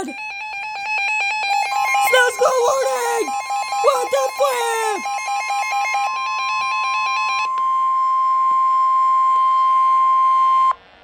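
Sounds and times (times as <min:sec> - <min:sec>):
steady high warning tone: 0:00.0 - 0:10.7.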